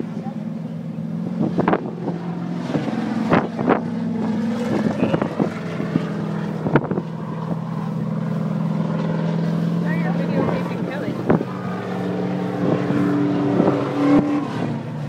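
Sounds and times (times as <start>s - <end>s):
car engines droning: 0.0s - 15.0s.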